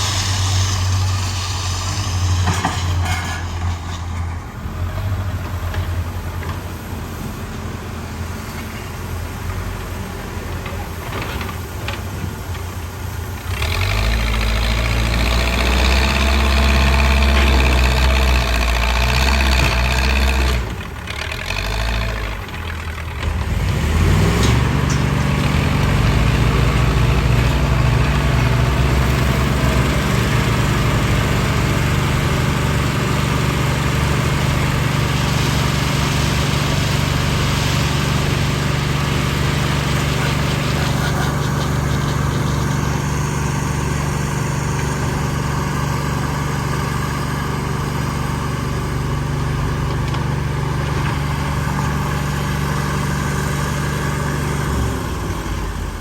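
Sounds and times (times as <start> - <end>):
backhoe diesel engine revving: 0.0 - 56.0.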